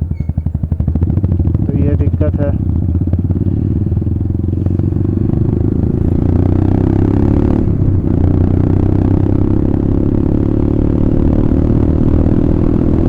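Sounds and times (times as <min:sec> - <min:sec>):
motorcycle exhaust thumping: 0:00.0 - 0:13.0.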